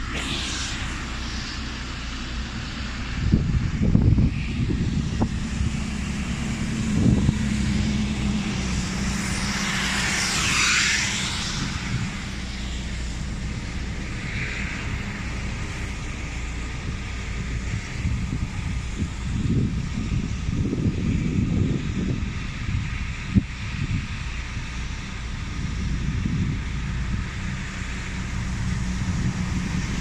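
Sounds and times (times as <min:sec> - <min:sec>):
rain hiss: 0:00.0 - 0:20.5, 0:22.2 - 0:30.0
vehicle rushing past: 0:00.0 - 0:21.6, 0:25.5 - 0:30.0
motorway traffic rumble: 0:00.0 - 0:30.0.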